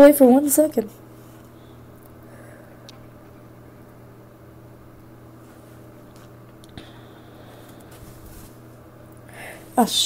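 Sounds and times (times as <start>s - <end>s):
electric fan humming: 0.0s - 10.0s.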